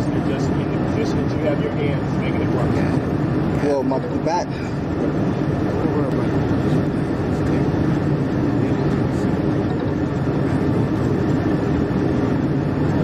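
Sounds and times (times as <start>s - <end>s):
low rumble and hiss in car: 0.0s - 13.0s.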